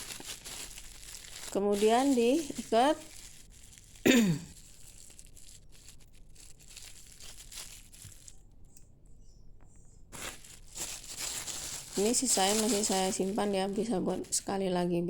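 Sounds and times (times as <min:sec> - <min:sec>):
plastic bag crinkling: 0:00.0 - 0:08.5, 0:10.1 - 0:15.0.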